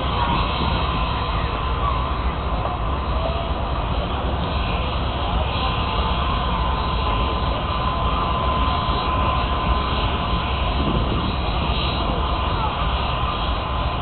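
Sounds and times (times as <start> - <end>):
steam locomotive hissing: 0.0 - 14.0
thin steady tone: 0.0 - 14.0.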